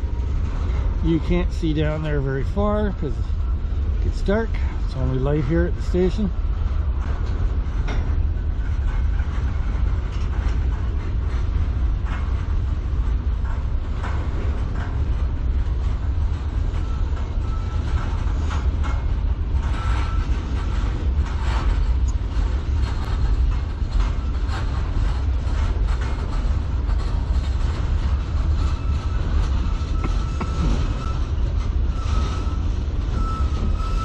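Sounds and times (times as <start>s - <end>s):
freight cars rumbling on rails: 0.0s - 34.0s.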